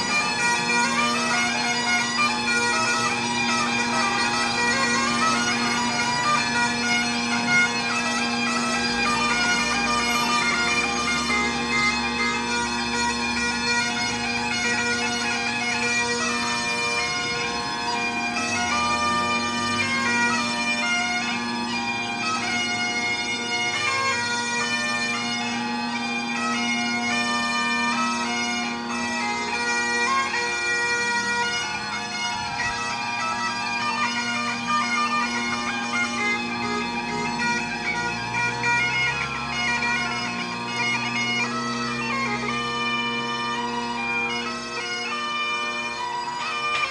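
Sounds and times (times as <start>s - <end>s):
bagpipe drone: 0.0s - 46.9s
bagpipe melody: 0.0s - 46.9s.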